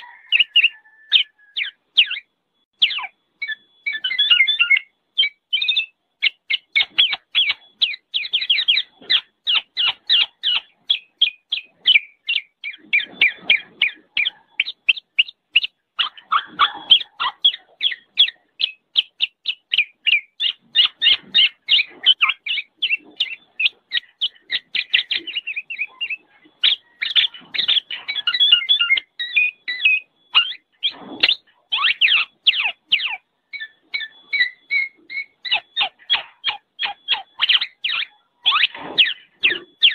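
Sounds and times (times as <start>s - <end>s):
oriole giving rapid short calls: 0.0s - 39.9s.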